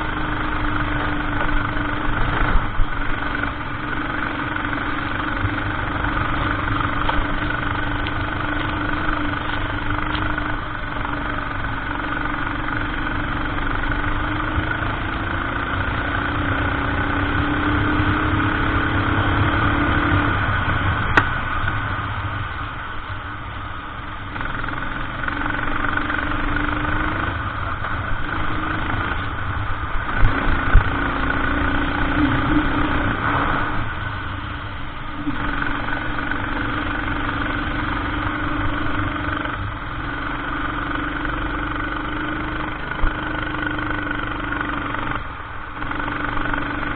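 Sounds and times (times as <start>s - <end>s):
go-kart engine running: 0.0s - 46.9s.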